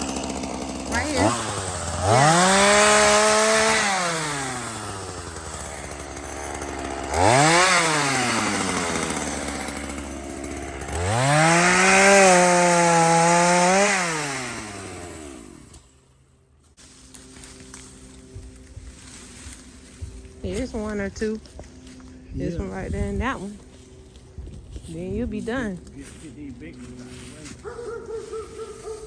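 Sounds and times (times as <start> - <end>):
chainsaw revving and idling: 0.0 - 29.0.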